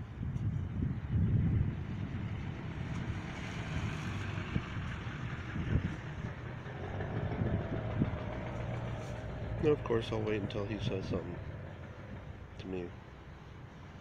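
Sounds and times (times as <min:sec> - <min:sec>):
vehicle engine idling: 0:00.5 - 0:14.0.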